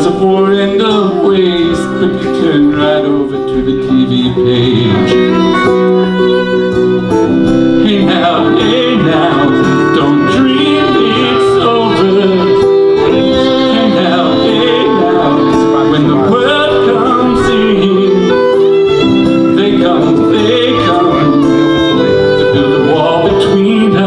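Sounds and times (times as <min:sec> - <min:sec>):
strummed acoustic guitar: 0:00.0 - 0:24.0
violin playing: 0:00.0 - 0:24.0.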